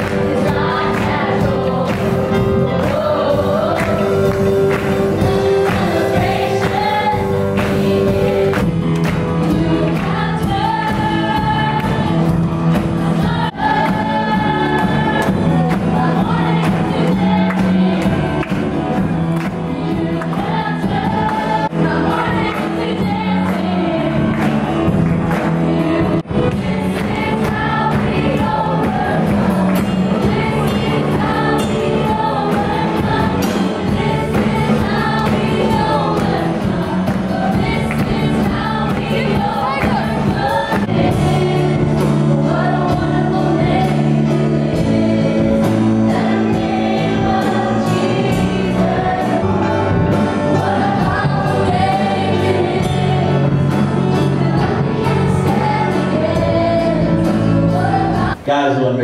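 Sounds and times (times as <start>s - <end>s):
crowd singing along: 0.0s - 59.0s
worship band playing: 0.0s - 59.0s.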